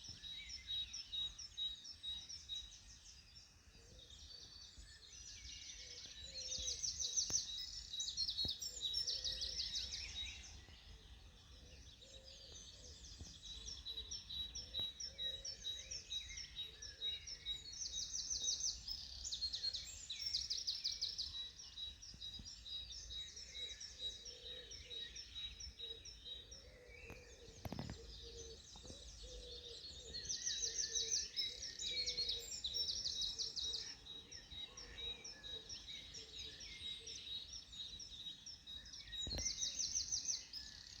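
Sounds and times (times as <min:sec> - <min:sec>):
songbirds trilling: 0:00.0 - 0:41.0.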